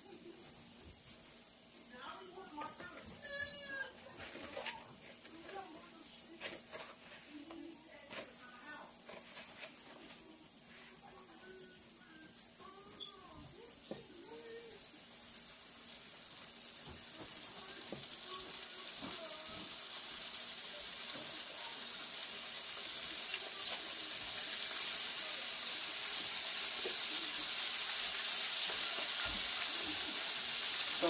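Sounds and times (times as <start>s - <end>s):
shrimp sizzling in hot oil: 0.0s - 31.0s.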